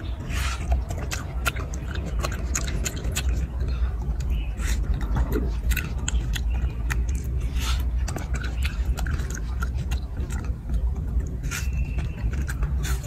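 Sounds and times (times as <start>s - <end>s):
monkey chewing watermelon: 0.0s - 13.0s.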